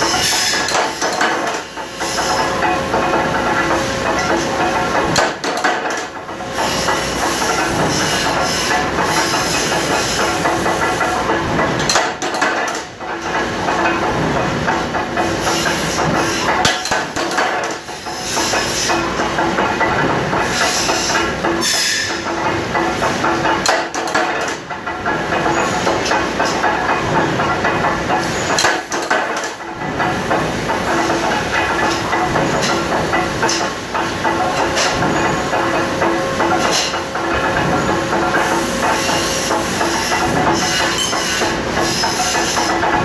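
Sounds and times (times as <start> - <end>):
factory machinery clattering: 0.0 - 43.0.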